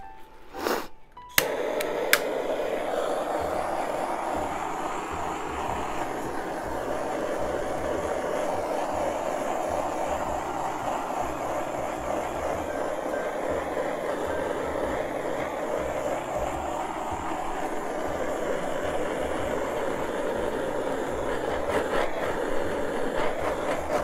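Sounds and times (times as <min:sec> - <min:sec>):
torch flame hissing: 0:00.5 - 0:24.0.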